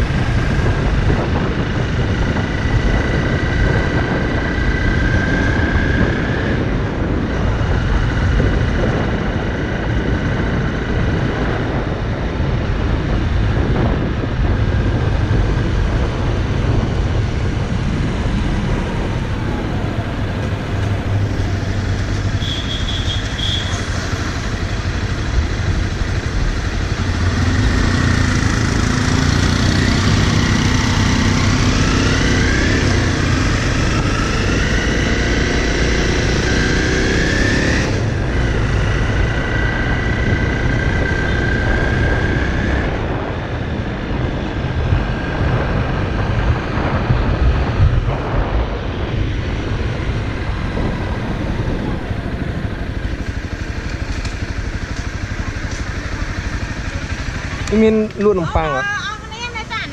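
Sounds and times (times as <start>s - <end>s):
dirt bike engine running: 0.0s - 42.3s, 43.9s - 59.9s
wind noise on microphone: 0.0s - 59.9s.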